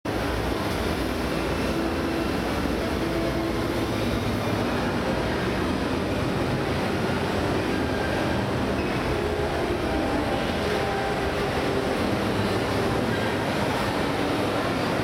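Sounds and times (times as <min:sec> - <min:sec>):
steam locomotive rumble: 0:00.1 - 0:15.0.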